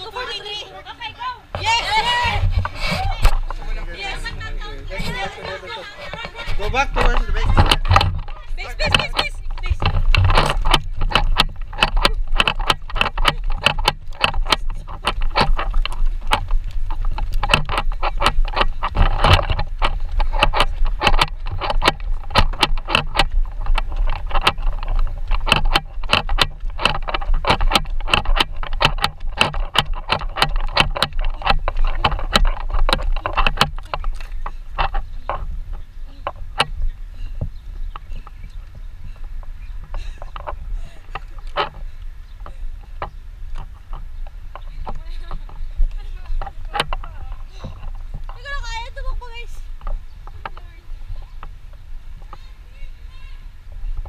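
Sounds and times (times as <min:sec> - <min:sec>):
camera handling knocks and rattles: 0:01.5 - 0:03.7, 0:04.3 - 0:49.0.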